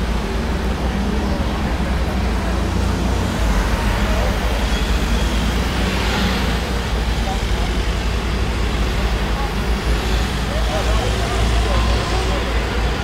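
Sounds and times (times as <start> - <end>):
vehicle engines and road noise: 0.0 - 13.0.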